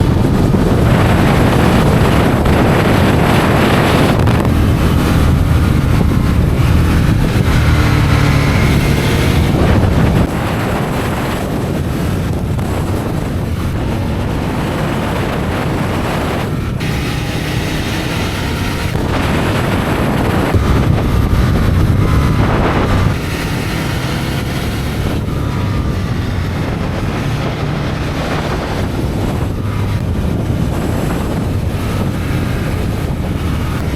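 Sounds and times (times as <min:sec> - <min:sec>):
motorcycle engine pulling hard: 0:00.0 - 0:33.9
wind rushing over microphone: 0:00.0 - 0:33.9.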